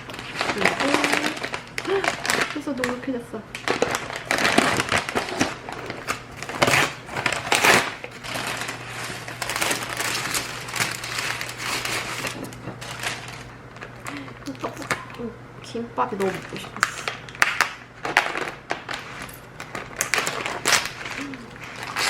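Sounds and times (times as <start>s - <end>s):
plastic packaging crinkling: 0.0s - 15.3s, 16.1s - 22.0s.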